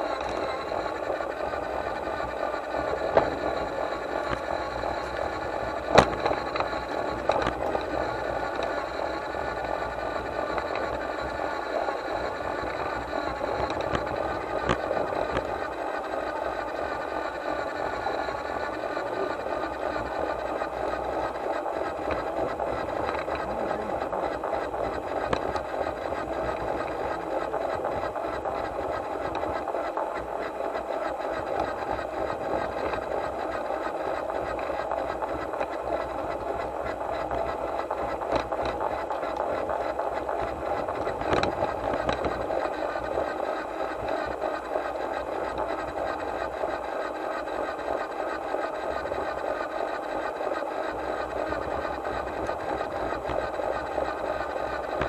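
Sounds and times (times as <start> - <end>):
model train motor whirring: 0.0 - 55.0
wheels clicking on rail joints: 0.0 - 55.0.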